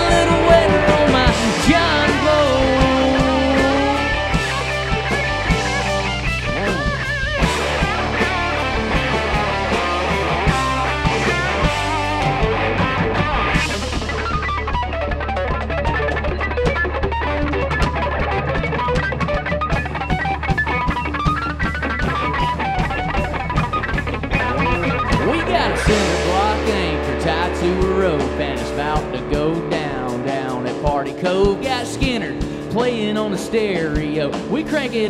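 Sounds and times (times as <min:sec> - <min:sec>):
electric lead guitar: 0:00.0 - 0:35.0
rock band playing: 0:00.0 - 0:35.0.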